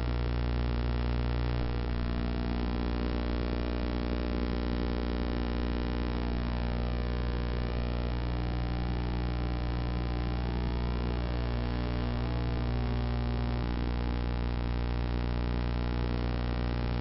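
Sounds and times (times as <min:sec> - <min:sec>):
buzzing hum: 0:00.0 - 0:17.0.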